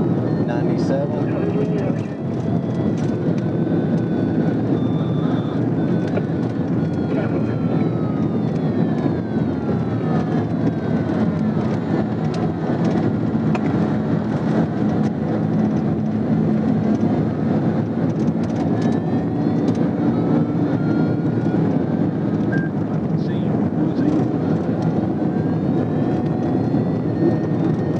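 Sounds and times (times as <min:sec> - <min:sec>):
car engine and road noise: 0:00.0 - 0:27.9
distant siren wailing: 0:00.0 - 0:27.9.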